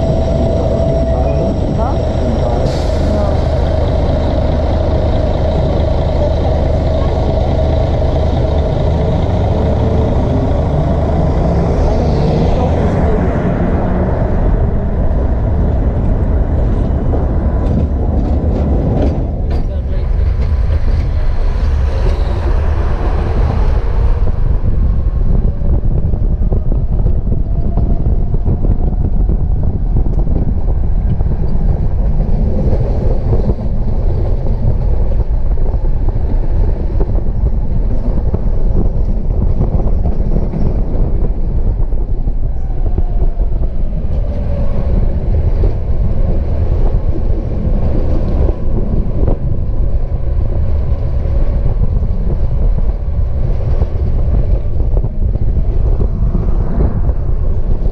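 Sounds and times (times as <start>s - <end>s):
tram rumbling: 0.0s - 57.9s.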